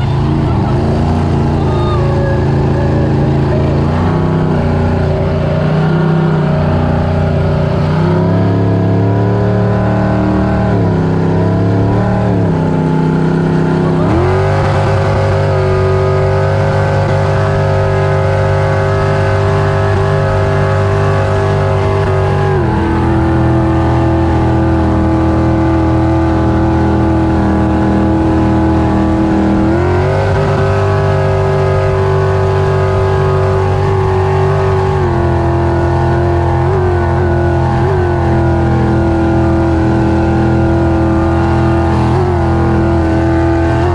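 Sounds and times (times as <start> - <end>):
boat engine running: 0.0 - 43.9.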